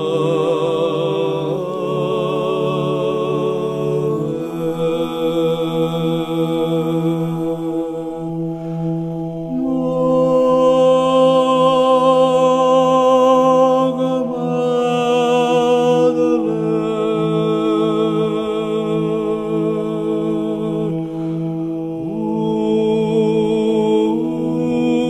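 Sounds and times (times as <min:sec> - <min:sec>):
chanted singing: 0:00.0 - 0:25.0
low drone: 0:00.0 - 0:25.0.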